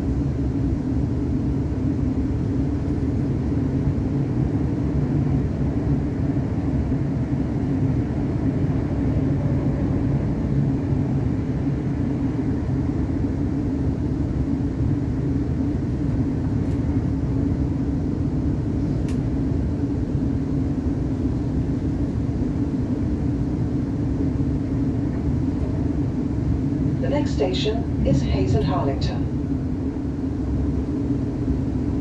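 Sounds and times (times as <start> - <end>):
constant low hum: 0.0 - 32.0.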